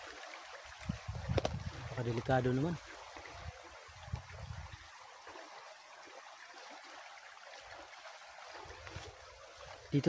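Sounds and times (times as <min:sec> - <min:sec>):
creek water running: 0:00.0 - 0:10.0.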